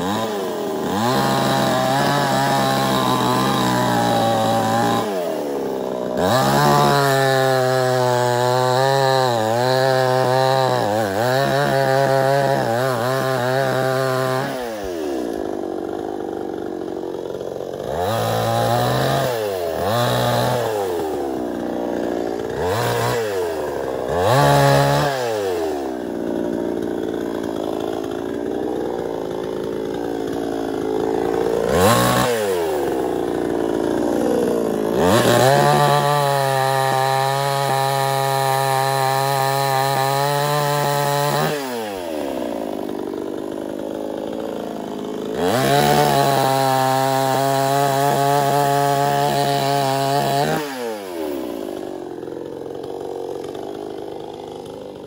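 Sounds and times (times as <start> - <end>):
chainsaw revving and cutting: 0.0 - 55.0.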